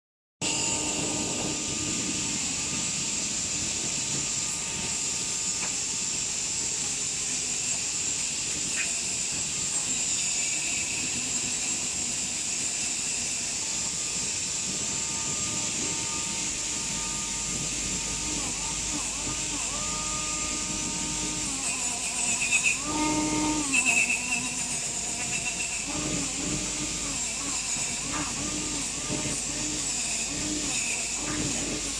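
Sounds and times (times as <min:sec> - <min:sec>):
high-pitched hiss: 0:00.4 - 0:28.2
machinery mechanical hum: 0:00.4 - 0:31.9.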